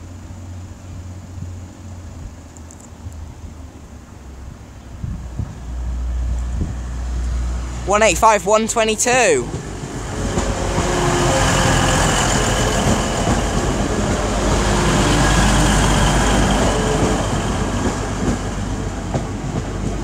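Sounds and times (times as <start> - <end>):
diesel train passing: 0.0 - 20.0.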